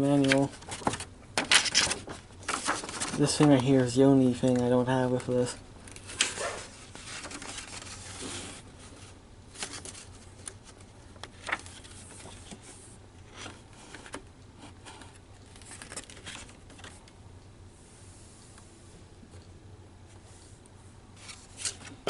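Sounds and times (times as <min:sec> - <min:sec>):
paper and cardboard rustling: 0:00.0 - 0:17.1, 0:21.2 - 0:22.0.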